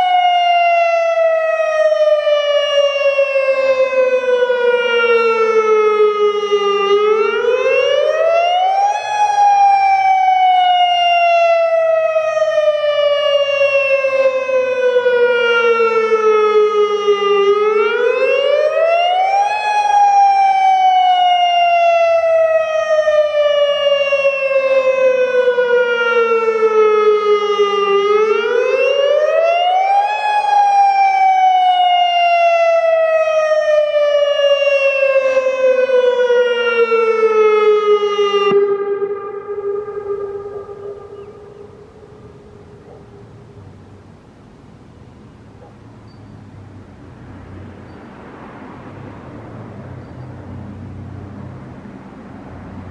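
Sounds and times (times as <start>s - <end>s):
warning siren wailing: 0.0s - 52.9s.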